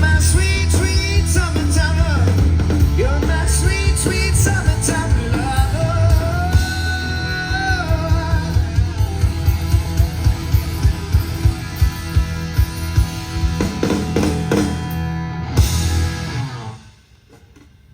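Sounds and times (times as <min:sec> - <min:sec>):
bass guitar: 0:00.0 - 0:17.0
electric guitar: 0:00.0 - 0:17.6.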